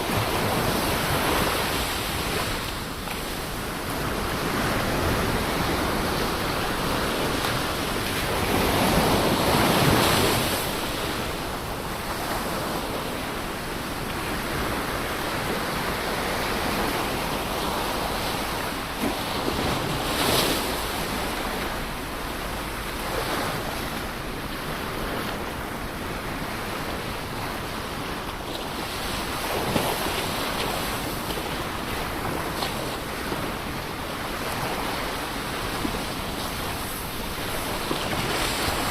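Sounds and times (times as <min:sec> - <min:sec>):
ocean waves on shore: 0:00.0 - 0:38.9.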